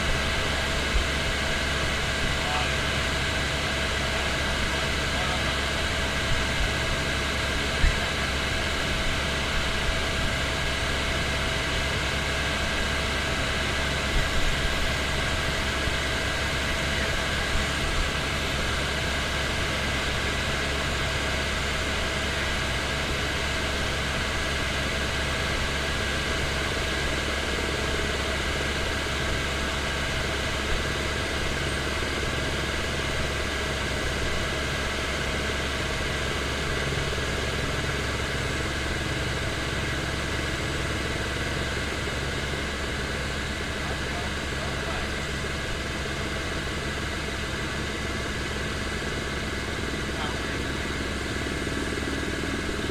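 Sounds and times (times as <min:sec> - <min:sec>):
helicopter engine and rotors droning: 0:00.0 - 0:52.9.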